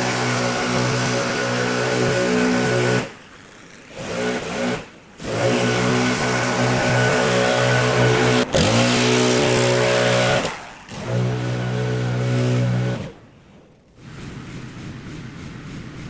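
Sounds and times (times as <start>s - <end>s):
pressure washer drone: 0.0s - 13.2s.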